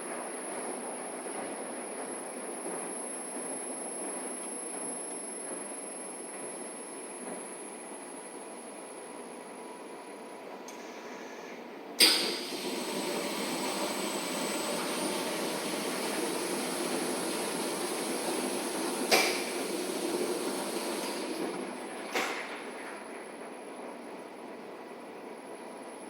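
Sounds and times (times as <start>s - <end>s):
washing machine running: 0.0s - 11.1s, 11.8s - 26.0s.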